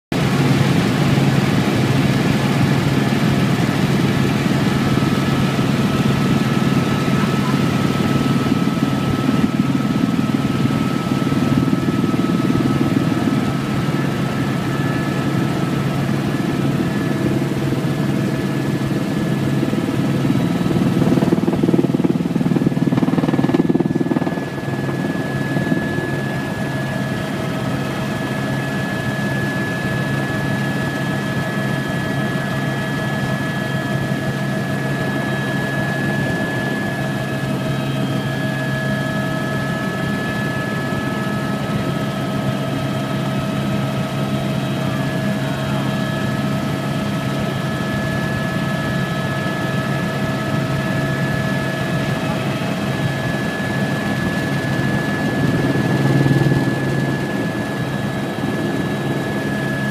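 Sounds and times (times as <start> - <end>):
helicopter engine and rotor drone: 0.1 - 59.9.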